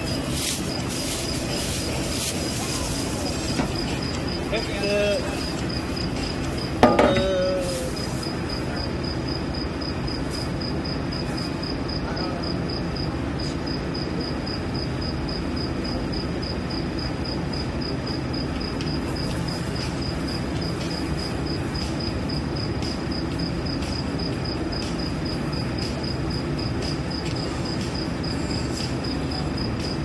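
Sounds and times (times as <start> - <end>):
cricket-like insect chirping: 0.0 - 30.0
low machinery hum: 0.0 - 30.0.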